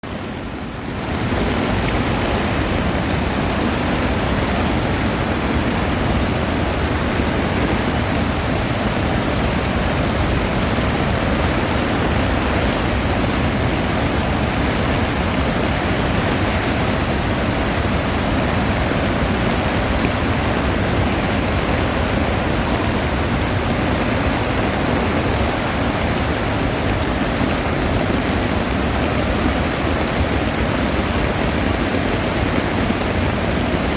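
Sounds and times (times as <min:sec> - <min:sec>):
mountain stream rushing: 0:00.0 - 0:33.9.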